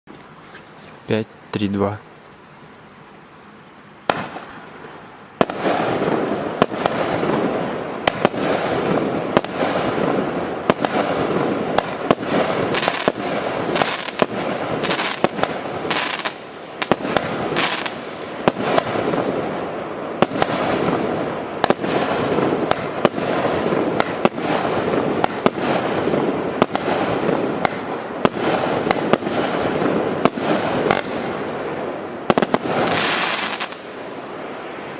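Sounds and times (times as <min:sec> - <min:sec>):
continuous dense hiss: 0:00.0 - 0:34.9
firework shots: 0:04.0 - 0:04.7, 0:05.4 - 0:34.0.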